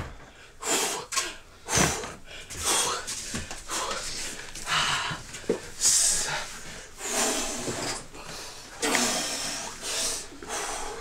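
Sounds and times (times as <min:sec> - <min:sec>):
man breathing hard: 0:00.0 - 0:11.0.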